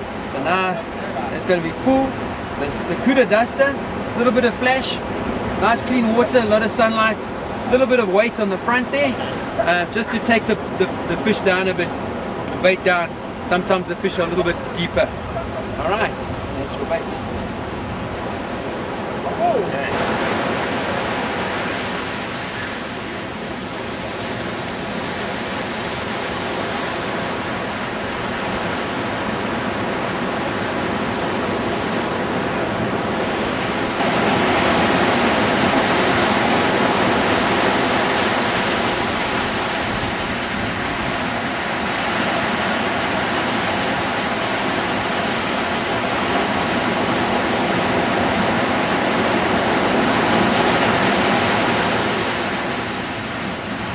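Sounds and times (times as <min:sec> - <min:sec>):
ocean surf breaking on beach: 0:00.0 - 0:53.9.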